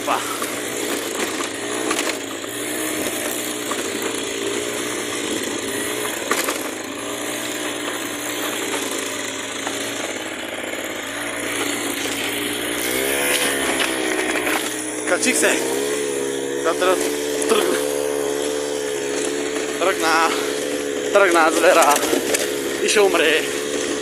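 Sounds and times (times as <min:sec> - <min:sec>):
motorbike engine revving unevenly: 0:00.0 - 0:24.0.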